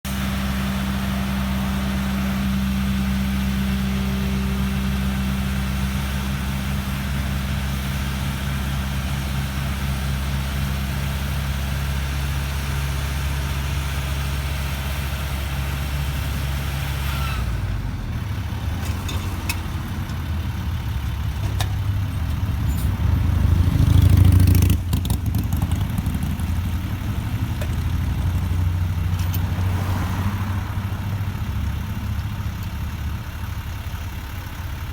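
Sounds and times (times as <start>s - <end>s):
road-repair machinery engines: 0.0s - 34.9s.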